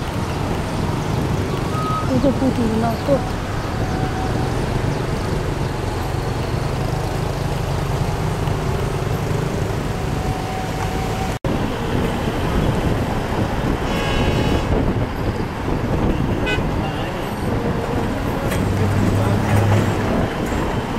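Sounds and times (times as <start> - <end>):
vehicle engine and road rumble: 0.0 - 20.9.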